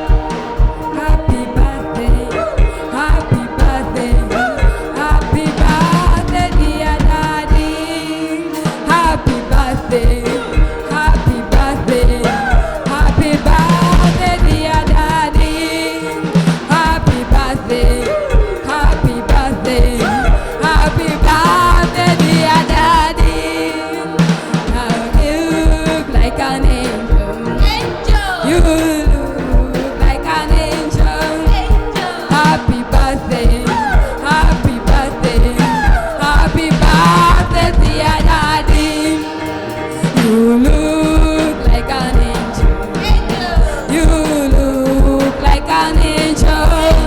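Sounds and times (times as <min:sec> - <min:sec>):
drum beat: 0:00.0 - 0:47.0
person singing: 0:00.0 - 0:47.0.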